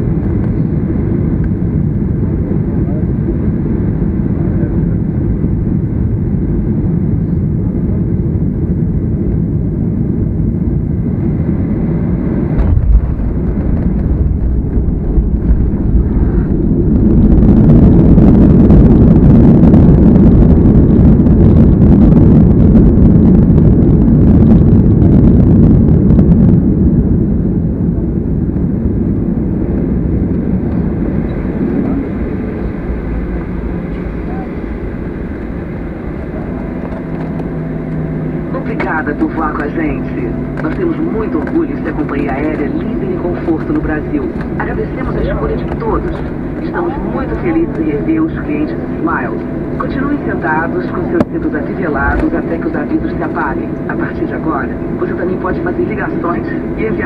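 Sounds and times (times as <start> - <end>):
airplane cabin engine noise: 0.0 - 57.0
jet engines in reverse thrust: 0.0 - 57.0.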